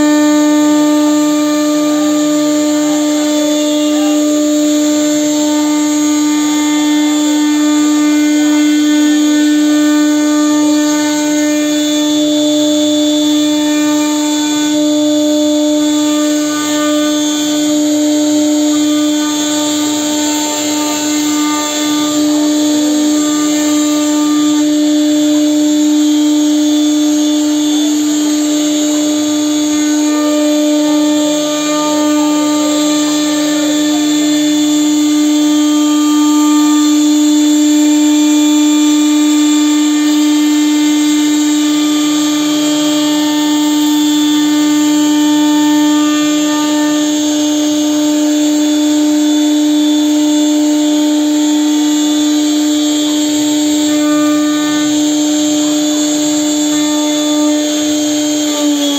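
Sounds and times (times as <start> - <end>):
bit rasping through wood: 0.0 - 50.6, 51.2 - 58.9
router spindle whine: 0.0 - 58.9.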